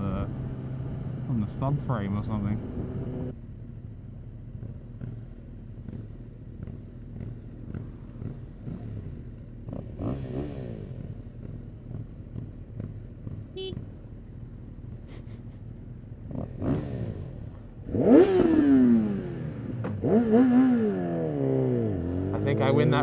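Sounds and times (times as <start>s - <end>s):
motorcycle engines revving: 0.0s - 3.4s, 4.5s - 23.0s.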